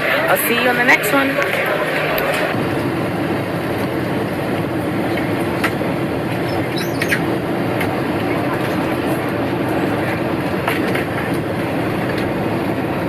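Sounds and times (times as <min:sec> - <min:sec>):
rail vehicle running: 0:00.0 - 0:13.0.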